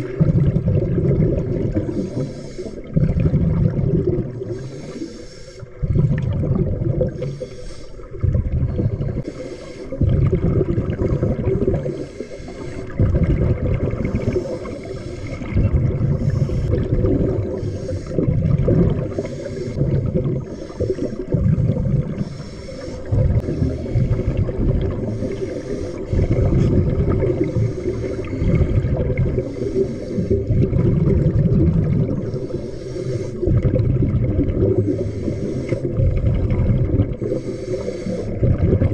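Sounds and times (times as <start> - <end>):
underwater water rushing: 0.0 - 38.9.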